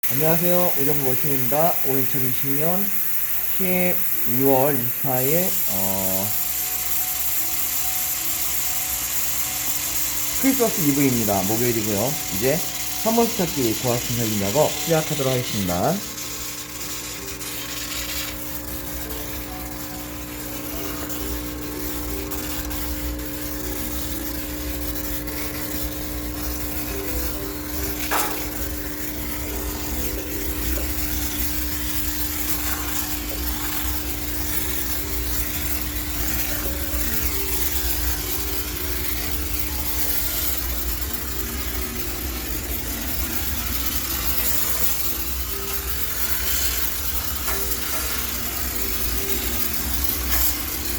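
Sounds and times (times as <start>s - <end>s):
steam hissing: 0.0s - 50.9s
constant machine hum: 0.1s - 50.9s.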